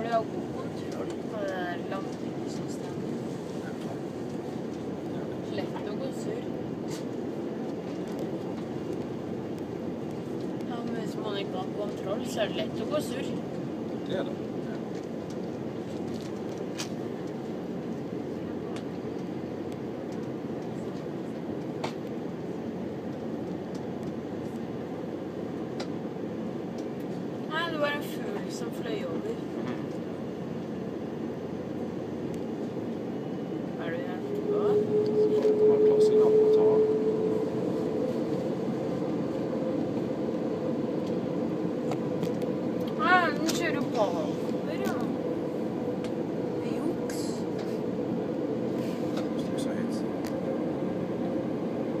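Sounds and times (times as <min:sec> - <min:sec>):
aircraft engines rumbling: 0:00.0 - 0:52.0.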